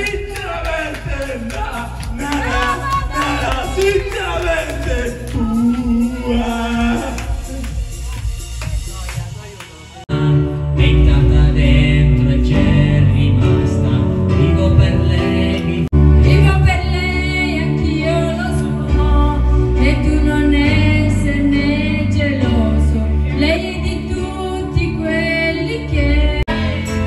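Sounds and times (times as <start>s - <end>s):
man and woman singing karaoke: 0.0s - 8.1s, 10.1s - 27.0s
backing track with heavy bass: 0.0s - 27.0s.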